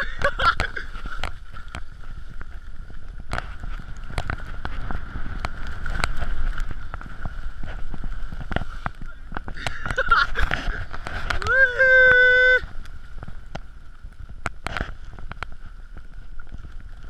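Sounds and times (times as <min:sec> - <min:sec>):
skis running over snow: 0:00.0 - 0:17.0.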